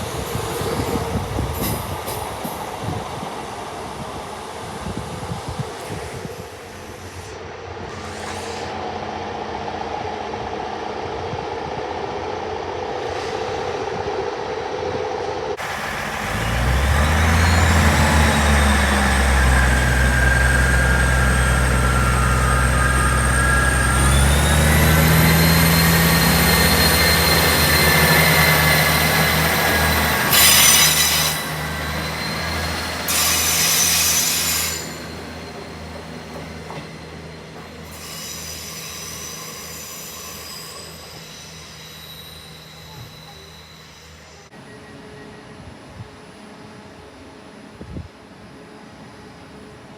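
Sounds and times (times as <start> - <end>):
train traction drone and whine: 0.0 - 49.9.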